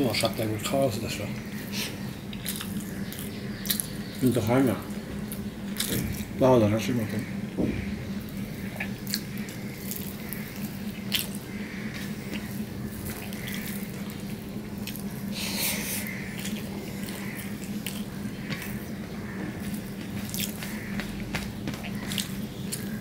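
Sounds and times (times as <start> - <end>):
steady low hum: 0.0 - 23.0
wet chewing and smacking: 1.5 - 6.4, 7.1 - 23.0.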